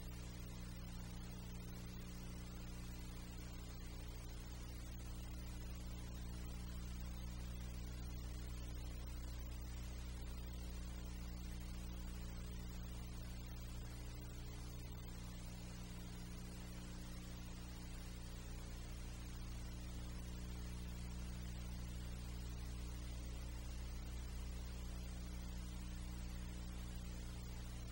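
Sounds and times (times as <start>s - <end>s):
low electrical hum with hiss: 0.0s - 27.9s.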